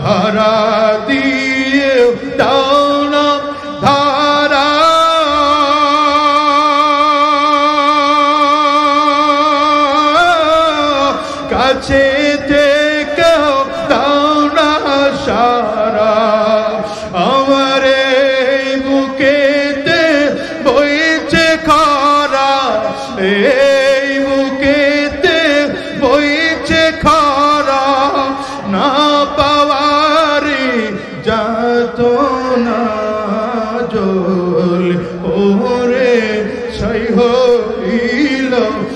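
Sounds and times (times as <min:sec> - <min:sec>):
man singing devotional song: 0:00.0 - 0:38.9.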